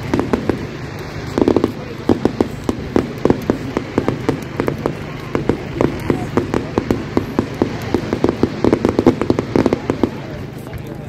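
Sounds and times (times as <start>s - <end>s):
crowd murmuring: 0.0s - 11.0s
firecrackers popping: 0.0s - 11.0s.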